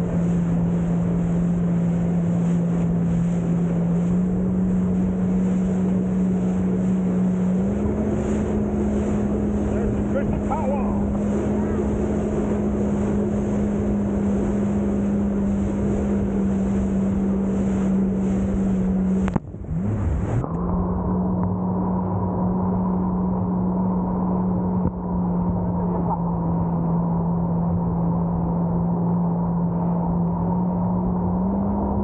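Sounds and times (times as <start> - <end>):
jet ski engine drone: 0.0 - 32.0
rushing water: 0.0 - 32.0.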